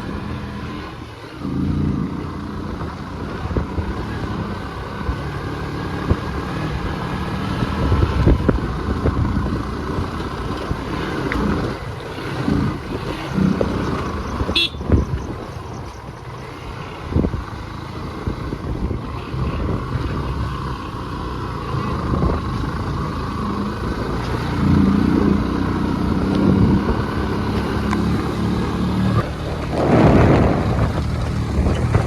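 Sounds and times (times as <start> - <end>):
vehicle engine rumble: 0.0 - 32.0.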